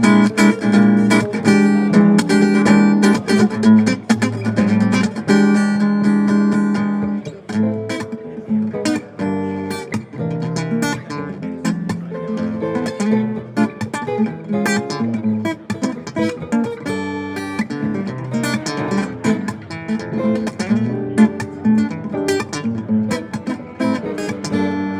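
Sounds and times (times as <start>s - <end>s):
acoustic guitar strumming: 0.0s - 24.9s.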